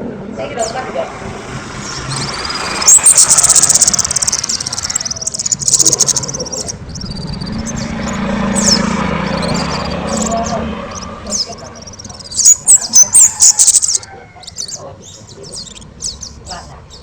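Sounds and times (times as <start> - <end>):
songbird trilling and whistling: 1.8 - 17.0.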